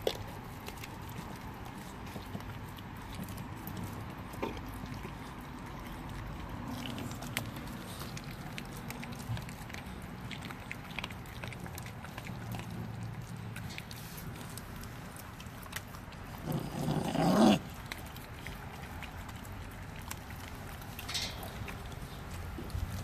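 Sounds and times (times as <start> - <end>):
puppies crunching frozen fish: 0.0 - 23.0.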